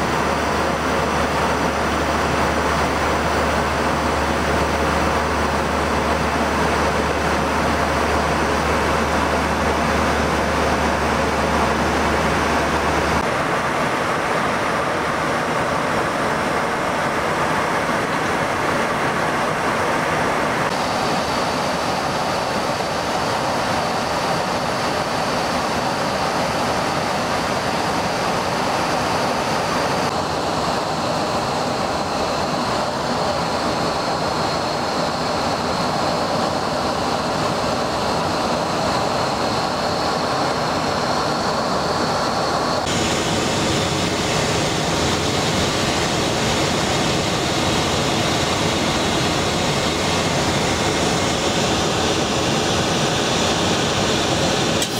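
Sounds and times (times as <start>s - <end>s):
cockpit airflow and engine noise: 0.0s - 54.9s.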